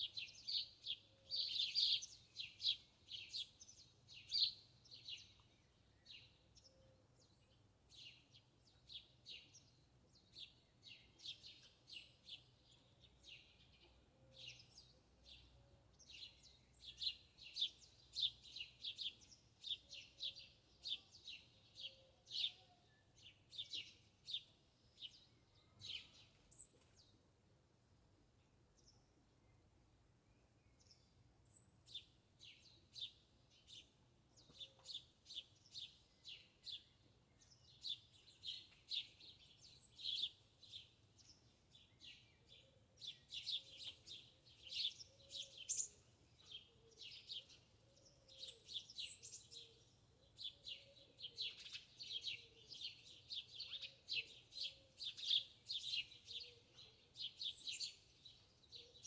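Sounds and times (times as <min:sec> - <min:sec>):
small birds chirping: 0:00.0 - 0:27.2, 0:30.4 - 0:59.0.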